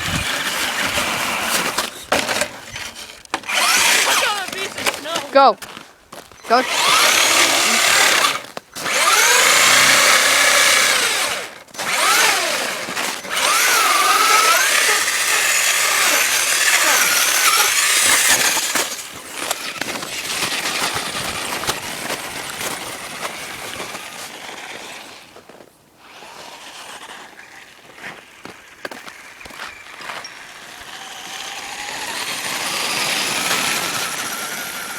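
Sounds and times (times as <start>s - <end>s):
toy truck motor whining: 0.0s - 34.9s.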